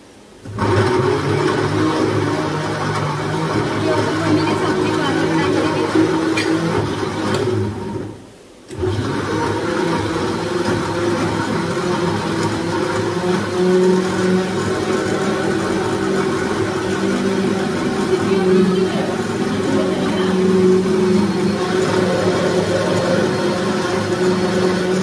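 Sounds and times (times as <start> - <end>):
electric mixer grinder motor hum: 0.5 - 25.0.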